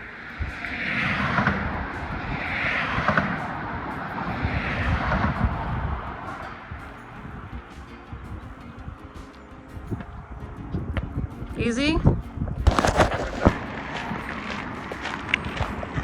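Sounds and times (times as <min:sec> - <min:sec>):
cars passing fast: 0:00.0 - 0:11.3, 0:12.4 - 0:16.0.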